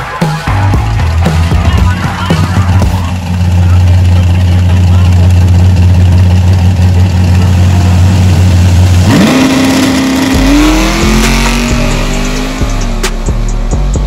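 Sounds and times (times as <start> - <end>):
drag racing engines revving: 0.0 - 14.0.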